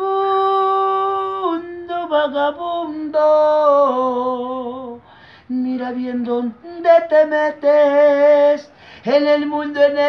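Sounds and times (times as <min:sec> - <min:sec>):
man singing a cappella: 0:00.0 - 0:10.0.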